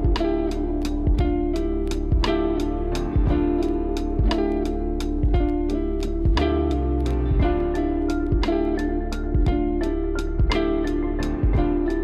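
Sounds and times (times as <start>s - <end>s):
instrumental pop music: 0.0s - 12.0s.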